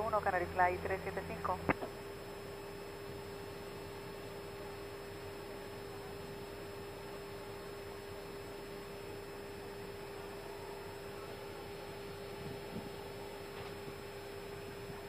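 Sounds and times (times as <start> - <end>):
electrical hum: 0.0 - 15.0
ventilation hiss: 0.0 - 15.0.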